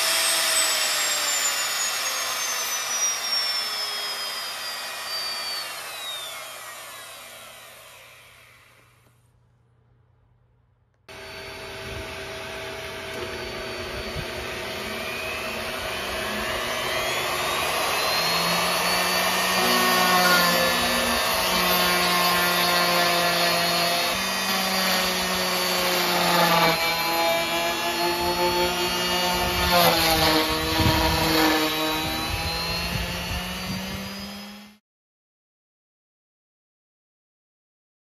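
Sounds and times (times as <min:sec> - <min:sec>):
router cutting wood: 0:00.0 - 0:09.2, 0:11.1 - 0:34.8.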